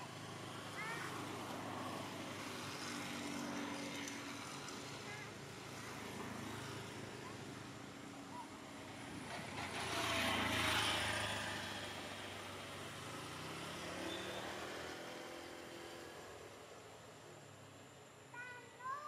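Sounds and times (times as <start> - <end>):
motor vehicle passing: 0.0 - 17.1.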